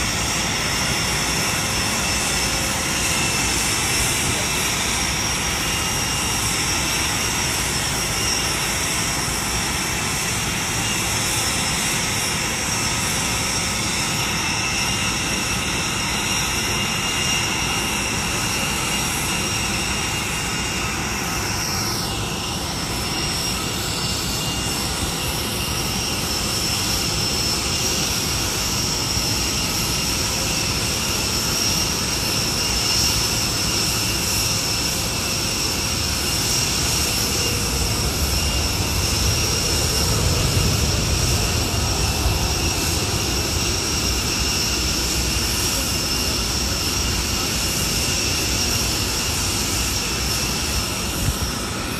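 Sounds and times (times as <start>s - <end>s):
jet engine roaring: 0.0s - 51.9s.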